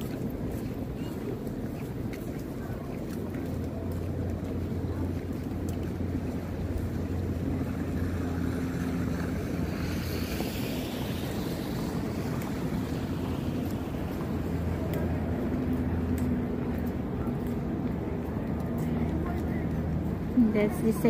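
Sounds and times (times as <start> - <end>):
wind on microphone: 0.0 - 18.5
street noise rumble: 0.0 - 21.0.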